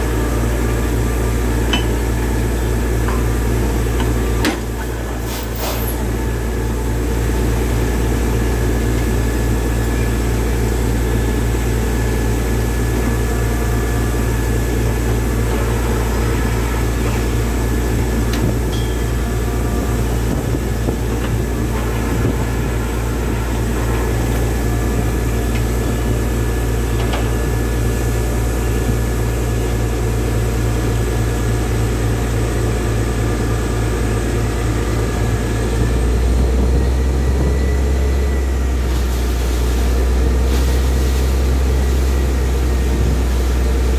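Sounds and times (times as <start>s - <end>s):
drilling rig droning: 0.0s - 43.9s.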